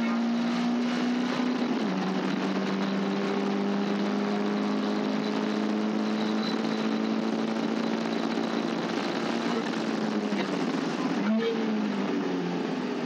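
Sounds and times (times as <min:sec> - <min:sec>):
race car engine running: 0:00.0 - 0:13.0
road noise: 0:00.0 - 0:13.0.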